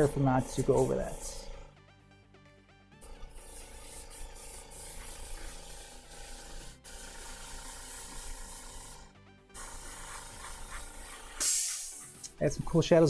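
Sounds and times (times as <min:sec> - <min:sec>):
airbrush hissing: 0:00.0 - 0:01.7, 0:03.0 - 0:12.5.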